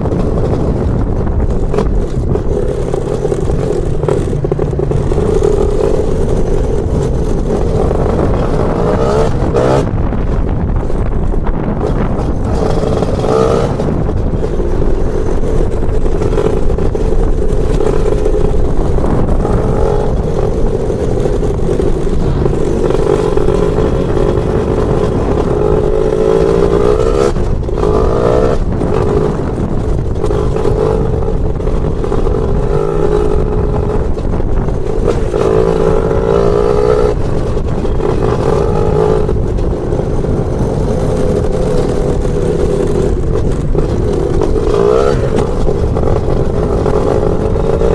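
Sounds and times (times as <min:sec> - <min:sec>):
two-stroke scooter engine revving: 0:00.0 - 0:47.9.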